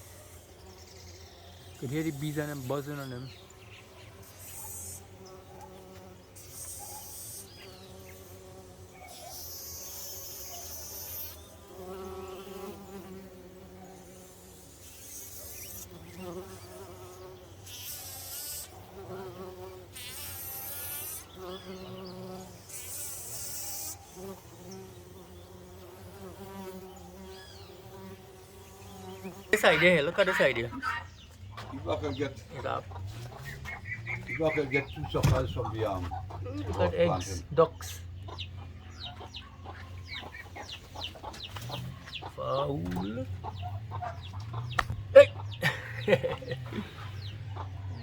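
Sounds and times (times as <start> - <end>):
bees buzzing: 0.0 - 48.0.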